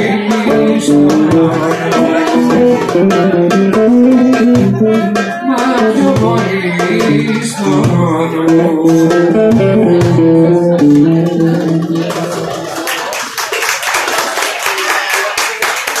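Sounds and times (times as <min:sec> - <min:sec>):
electric guitar strumming: 0:00.0 - 0:13.1
hand drum: 0:00.0 - 0:13.1.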